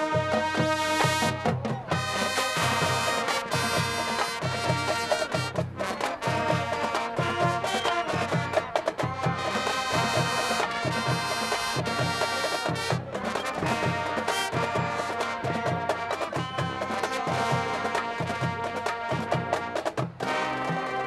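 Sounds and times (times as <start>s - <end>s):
brass holding loud chords: 0.0s - 8.6s, 9.2s - 21.0s
bass drum and drumline beat: 0.0s - 21.0s.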